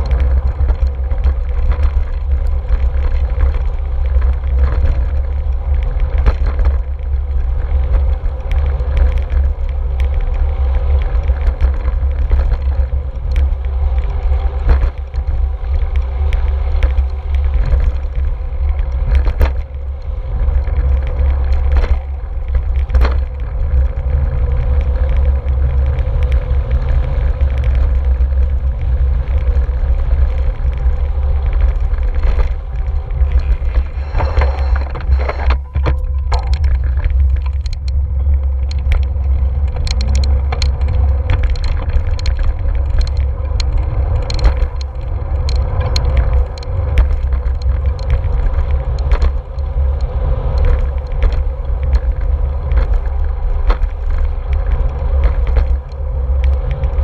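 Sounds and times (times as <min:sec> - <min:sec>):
sharp clicks and knocks: 0:00.0 - 0:24.0, 0:24.7 - 0:57.0
bicycle tyre and road noise: 0:00.0 - 0:57.0
wind noise on microphone: 0:00.0 - 0:57.0.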